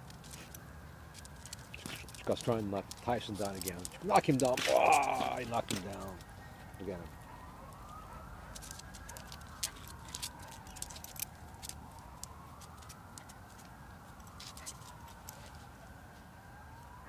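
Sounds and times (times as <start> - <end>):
dog claws clicking on paving: 0.0 - 7.0, 7.7 - 15.8
distant wailing siren: 0.0 - 17.0.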